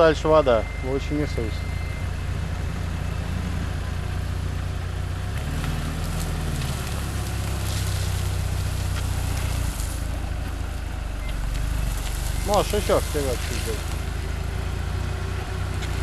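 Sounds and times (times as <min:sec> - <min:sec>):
suv engine running at low revs: 0:00.0 - 0:16.0.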